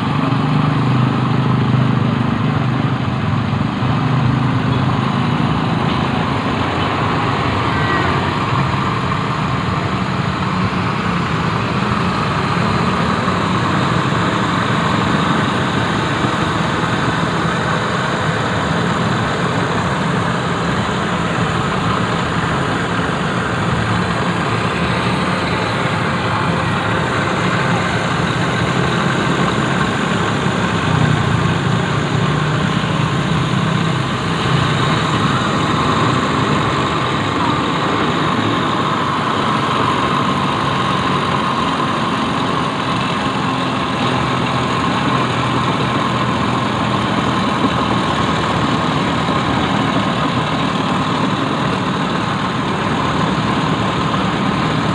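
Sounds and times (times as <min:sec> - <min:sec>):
small engine humming: 0:00.0 - 0:54.9.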